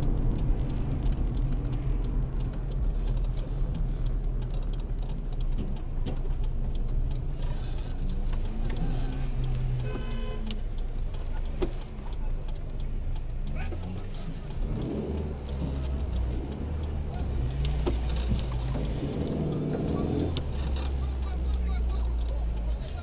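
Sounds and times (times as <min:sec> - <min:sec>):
car engine and road noise: 0:00.0 - 0:23.0
light ticking: 0:00.0 - 0:23.0.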